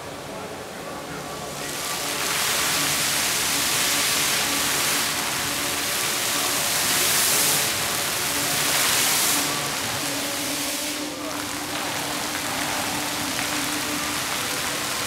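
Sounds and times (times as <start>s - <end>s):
fountain water jets splashing: 0.0s - 15.0s.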